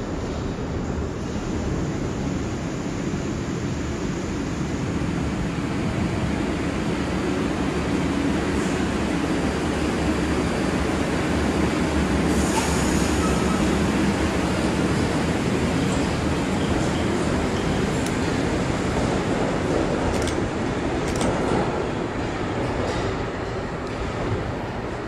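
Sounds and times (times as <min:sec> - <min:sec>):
subway train rumbling and rattling: 0:00.0 - 0:25.0.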